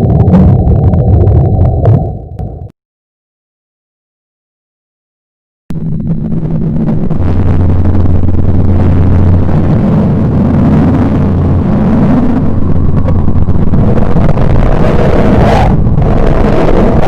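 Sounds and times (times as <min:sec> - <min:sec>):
low hum: 0:00.0 - 0:02.7, 0:05.7 - 0:17.0
rumbling drone: 0:00.0 - 0:02.7, 0:05.7 - 0:17.0.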